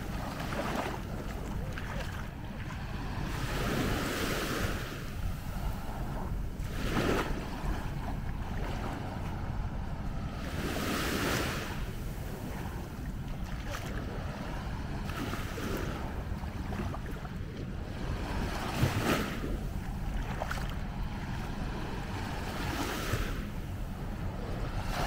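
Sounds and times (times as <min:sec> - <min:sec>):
waves washing up sand: 0:00.0 - 0:25.0
wind rumble on microphone: 0:00.0 - 0:25.0.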